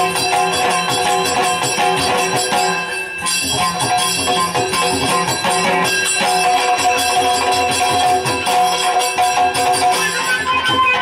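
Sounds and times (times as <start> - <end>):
bells jingling: 0.0 - 10.9
drums beating fast: 0.0 - 11.0.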